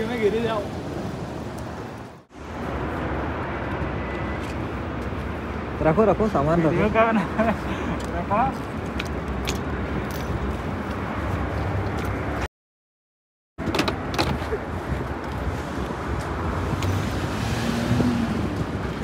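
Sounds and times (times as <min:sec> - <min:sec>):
road traffic rumble: 0:00.0 - 0:12.5, 0:13.6 - 0:19.0.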